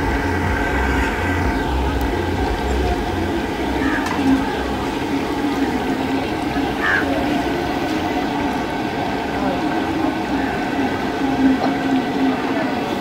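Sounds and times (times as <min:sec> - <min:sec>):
background voices: 0:00.0 - 0:13.0
low hum: 0:00.0 - 0:13.0.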